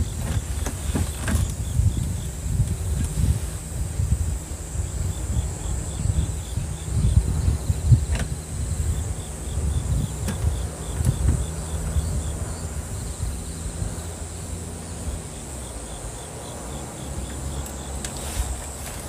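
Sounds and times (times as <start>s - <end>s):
insects shrilling: 0.0s - 19.0s.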